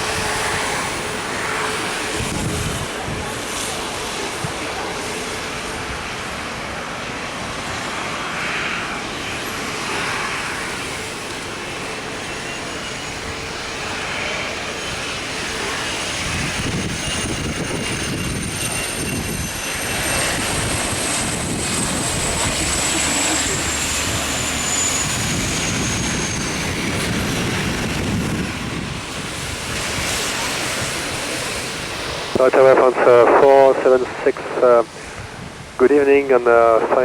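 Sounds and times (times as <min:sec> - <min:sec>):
jet engines whining: 0:00.0 - 0:37.0
low aircraft rumble: 0:00.0 - 0:37.0.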